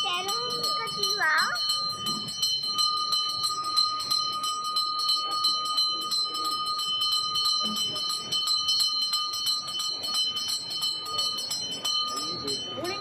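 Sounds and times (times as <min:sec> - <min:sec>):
bell ringing rapidly: 0:00.0 - 0:13.0.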